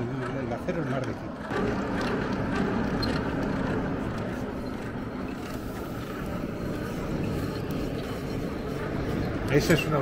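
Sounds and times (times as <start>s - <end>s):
hand-cranked blower turning: 0.0s - 10.0s.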